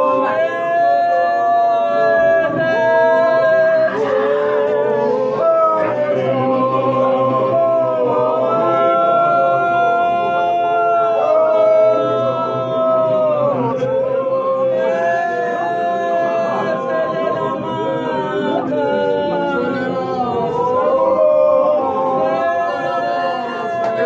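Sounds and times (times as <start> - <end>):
congregation singing a cappella: 0.0 - 24.0.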